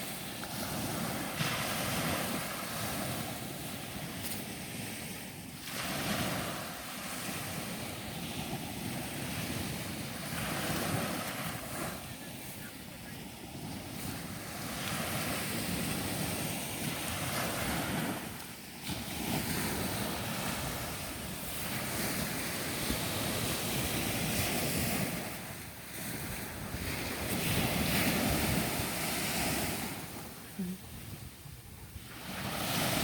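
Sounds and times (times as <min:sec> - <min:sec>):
ocean surf washing onto beach: 0:00.0 - 0:33.0
wind rumbling on microphone: 0:00.0 - 0:33.0.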